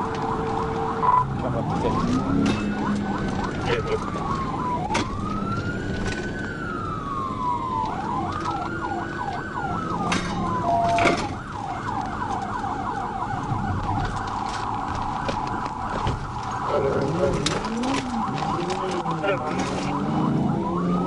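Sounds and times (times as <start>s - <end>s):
car road and engine noise: 0.0s - 21.0s
police siren wailing and yelping: 0.0s - 21.0s.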